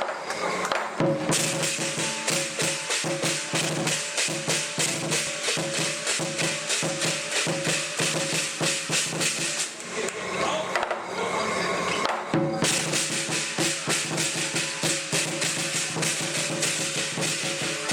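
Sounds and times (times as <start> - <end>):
clashing cymbals: 0.0 - 9.8, 11.4 - 17.9
gong: 0.0 - 9.8, 11.1 - 17.9
drum: 0.8 - 9.8, 12.1 - 17.9.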